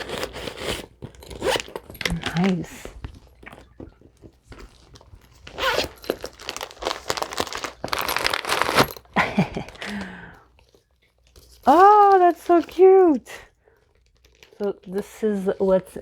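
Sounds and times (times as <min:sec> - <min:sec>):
packing material crinkling: 0:00.0 - 0:16.0.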